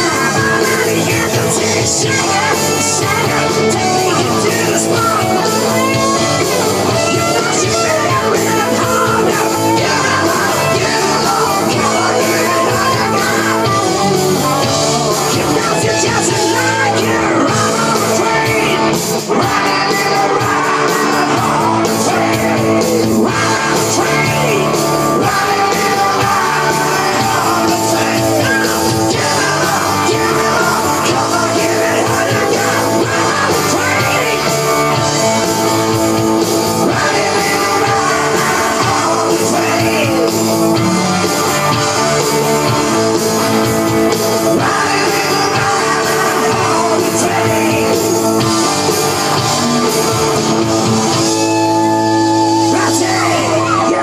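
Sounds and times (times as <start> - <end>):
guitar: 0.0 - 54.0
person singing rock song: 0.0 - 54.0.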